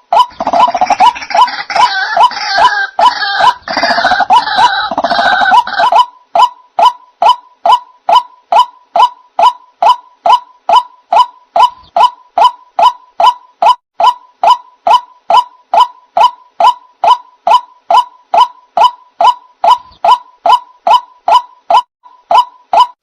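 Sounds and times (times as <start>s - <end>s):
harsh chorus of bird calls: 0.0s - 23.0s.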